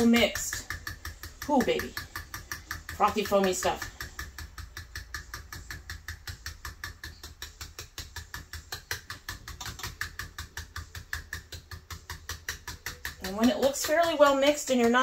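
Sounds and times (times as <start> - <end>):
fork beating eggs in bowl: 0.0 - 15.0.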